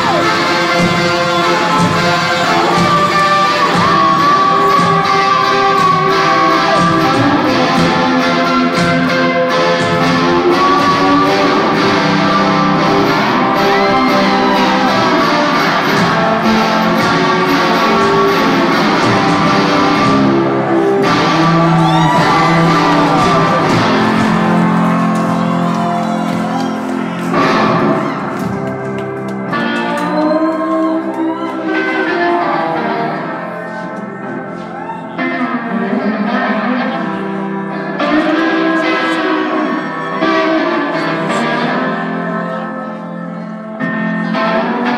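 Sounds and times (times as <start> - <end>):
electric guitar strumming: 0.0 - 44.9
live rock band playing: 0.0 - 44.9.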